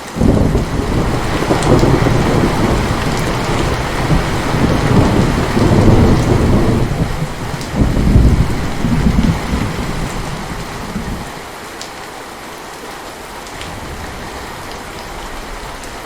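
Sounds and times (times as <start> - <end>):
intense rain falling: 0.0 - 16.0
rolling thunder: 0.2 - 11.4, 13.6 - 16.0.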